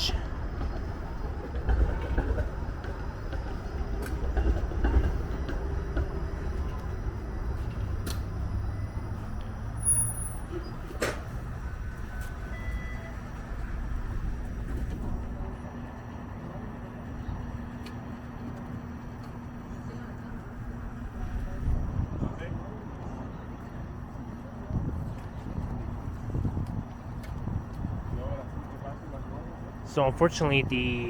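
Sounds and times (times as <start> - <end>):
streetcar rumble: 0.0 - 31.0.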